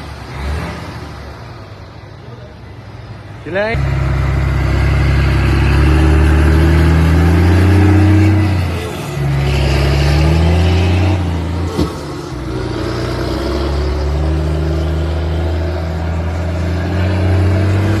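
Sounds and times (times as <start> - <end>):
truck diesel engine growling: 0.0 - 18.0.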